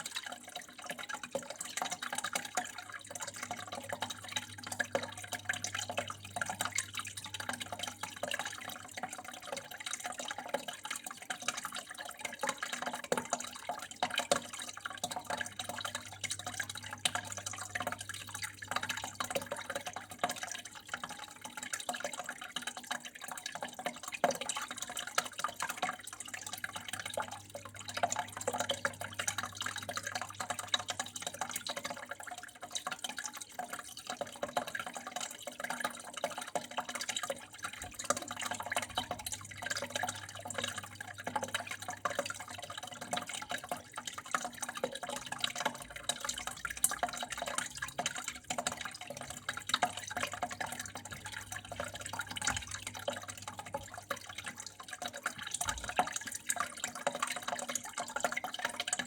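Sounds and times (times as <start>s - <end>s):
water flowing and dripping: 0.0s - 59.0s.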